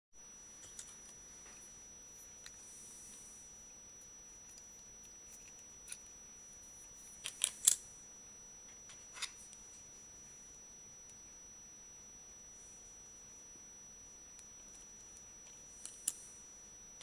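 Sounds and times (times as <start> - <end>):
faint steady high whine: 0.2 - 17.0.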